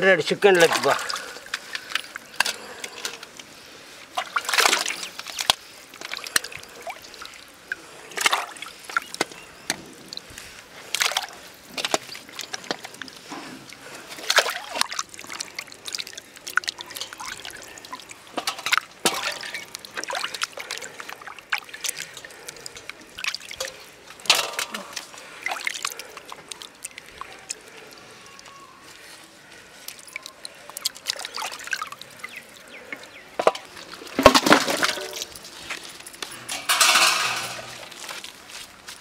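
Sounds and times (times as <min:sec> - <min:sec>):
water splashing in metal basin: 0:00.4 - 0:03.3, 0:03.9 - 0:28.5, 0:29.8 - 0:35.4, 0:36.4 - 0:38.2.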